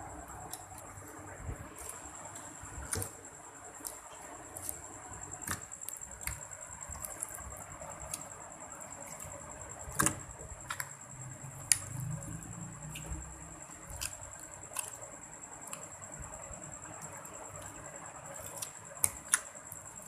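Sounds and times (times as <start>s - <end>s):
slime squishing: 0.0s - 11.0s, 11.6s - 20.0s.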